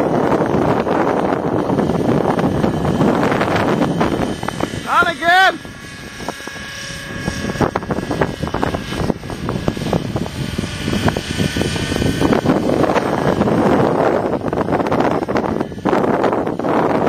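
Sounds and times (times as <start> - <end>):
model helicopter engine whine: 0.0 - 17.0
wind buffeting microphone: 0.0 - 17.0.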